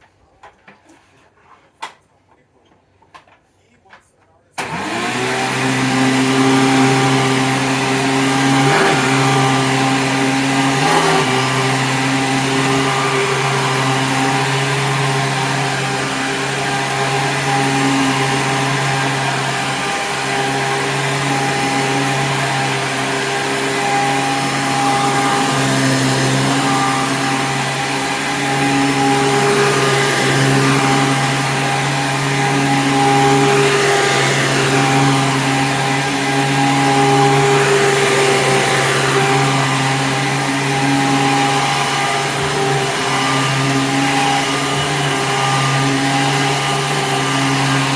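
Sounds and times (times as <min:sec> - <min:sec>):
vacuum cleaner motor humming: 0:04.6 - 0:47.9.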